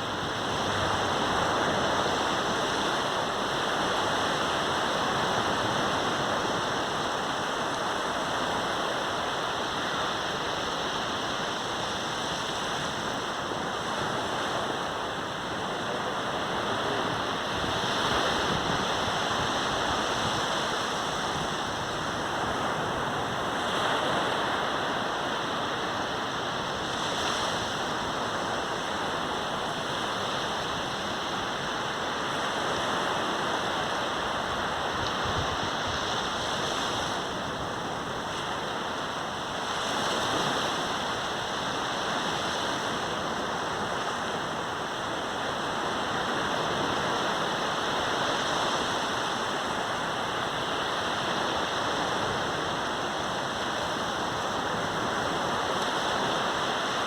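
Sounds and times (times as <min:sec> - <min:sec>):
surf washing onto beach: 0:00.0 - 0:57.0.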